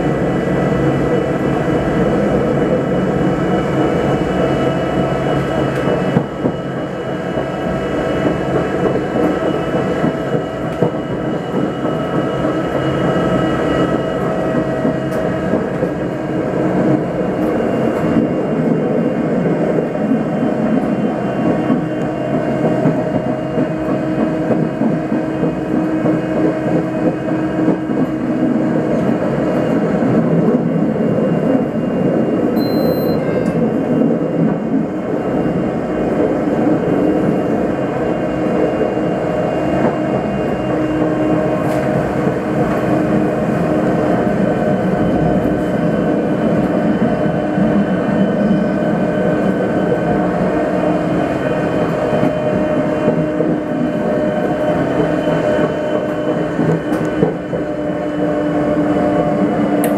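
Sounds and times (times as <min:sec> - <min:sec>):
railcar wheels rumbling on rails: 0:00.0 - 0:59.9.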